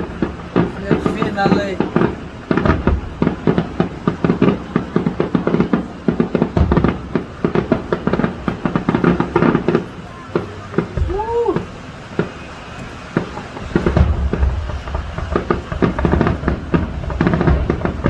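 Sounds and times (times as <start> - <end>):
deep firework boom: 0.0 - 18.0
fireworks bangs and crackling: 0.0 - 18.0.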